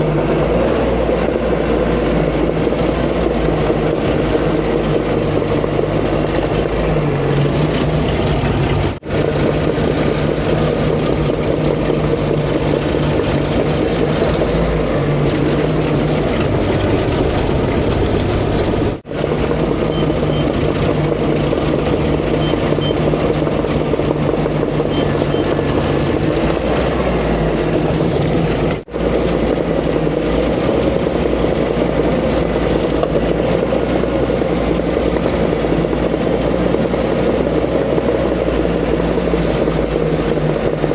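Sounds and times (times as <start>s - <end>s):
diesel machine engine running: 0.0s - 40.9s.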